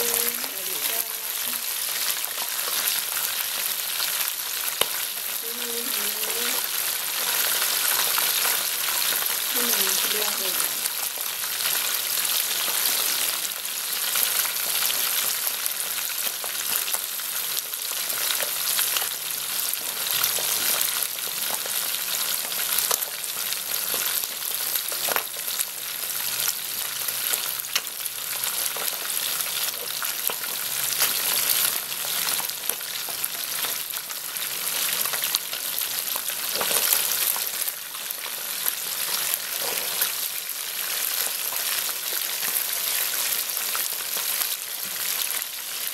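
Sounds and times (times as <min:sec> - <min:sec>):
fish deep-frying in hot oil: 0:00.0 - 0:45.9.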